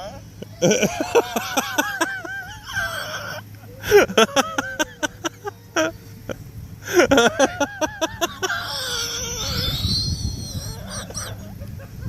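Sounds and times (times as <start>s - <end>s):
low rumble: 0.0s - 12.0s
man laughing hard: 0.0s - 12.0s.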